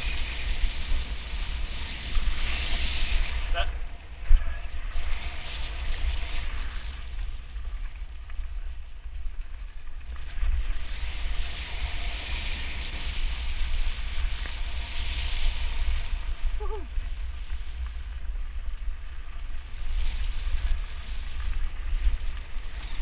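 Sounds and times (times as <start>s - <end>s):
bike tyres rolling on gravel: 0.0s - 23.0s
wind buffeting microphone: 0.0s - 23.0s.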